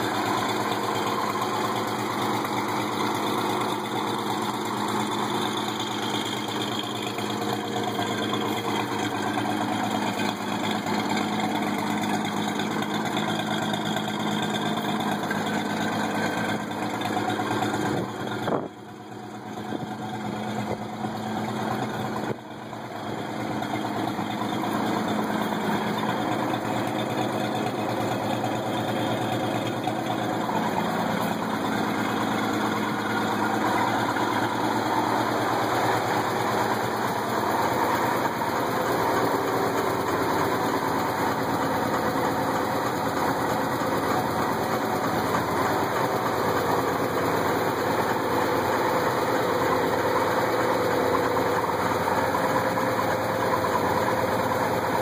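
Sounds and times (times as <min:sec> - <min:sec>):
pickup engine idling: 0:00.0 - 0:55.0.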